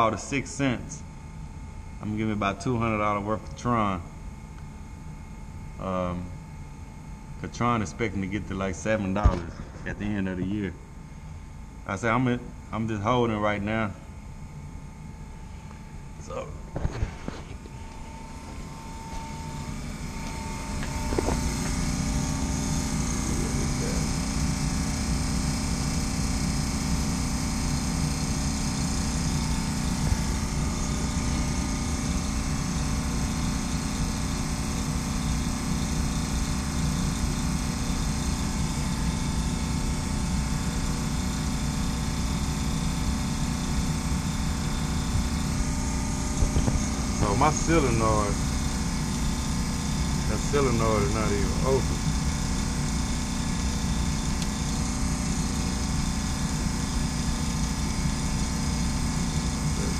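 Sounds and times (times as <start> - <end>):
hvac unit humming with rushing air: 0.0 - 59.9.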